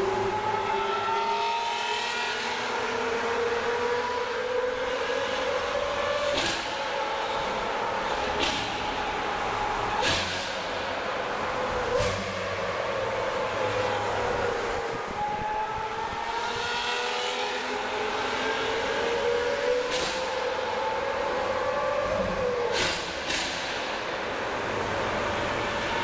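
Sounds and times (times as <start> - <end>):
sports car engine in tunnel: 0.0 - 26.0.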